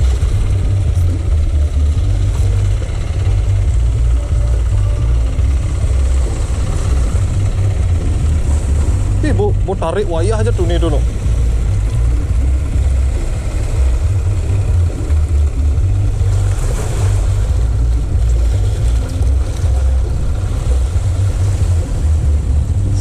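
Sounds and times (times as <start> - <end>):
sea waves washing: 0.0 - 23.0
wind buffeting microphone: 0.0 - 23.0.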